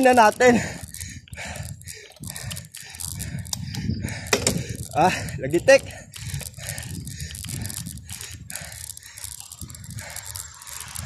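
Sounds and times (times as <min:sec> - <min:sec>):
bicycle clicking and creaking: 0:00.0 - 0:11.0
low wind: 0:00.0 - 0:11.0
road rumble: 0:00.0 - 0:11.0.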